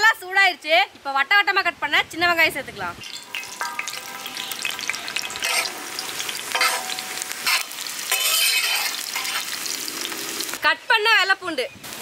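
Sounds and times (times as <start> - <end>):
shallots sizzling in oil: 2.2 - 12.0.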